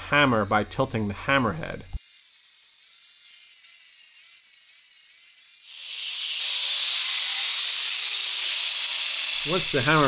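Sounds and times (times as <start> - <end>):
angle grinder grinding steel: 0.0 - 10.0.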